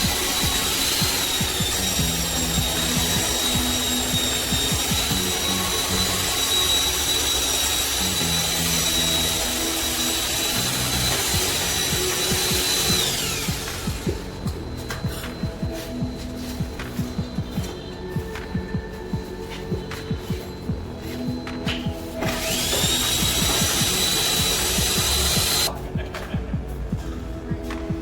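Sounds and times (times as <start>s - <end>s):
power tool high whine: 0.0s - 18.5s, 19.2s - 25.7s.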